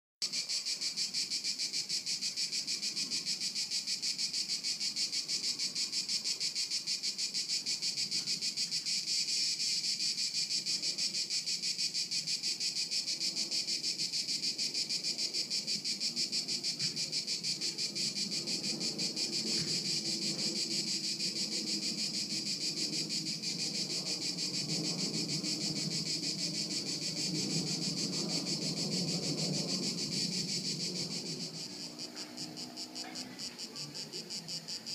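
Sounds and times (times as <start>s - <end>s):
insects buzzing: 0.2s - 34.9s.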